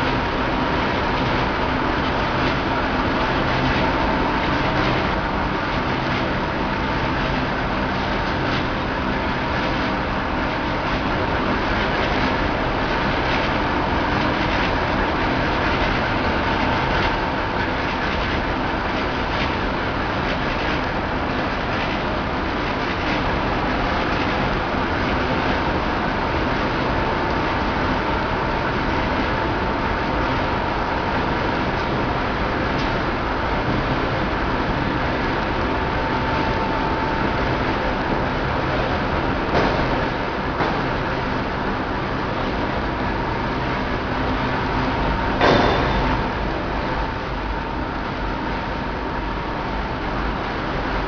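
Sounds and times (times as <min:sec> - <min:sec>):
production line machinery running: 0:00.0 - 0:51.0.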